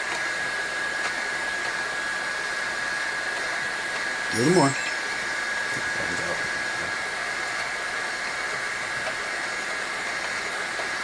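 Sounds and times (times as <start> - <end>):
constant high whine: 0.0 - 11.0
cooling fans whooshing: 0.0 - 11.0.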